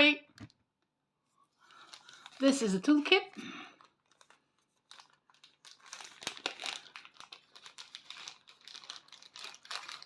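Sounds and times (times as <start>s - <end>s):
plastic packaging crinkling: 1.6s - 10.0s.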